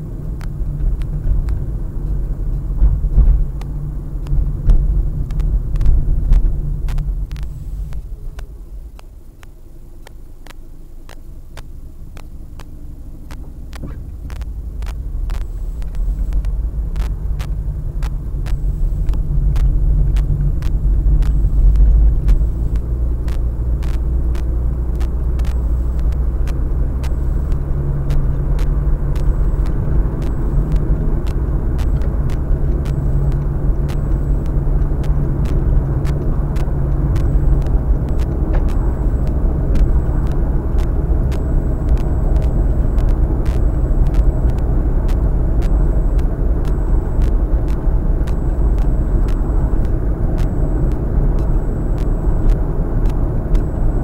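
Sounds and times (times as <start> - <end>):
car engine and tyre noise: 0.0 - 54.0
faint regular clicks: 0.2 - 54.0.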